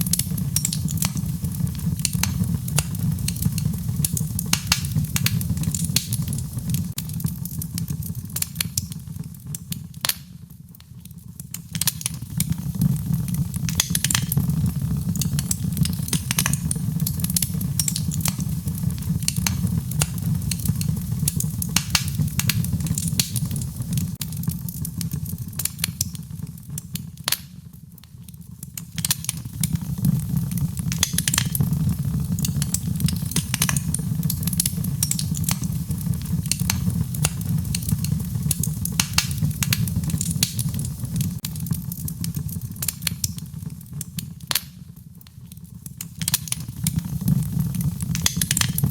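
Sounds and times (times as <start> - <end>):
fireplace crackling and popping: 0.0 - 48.9.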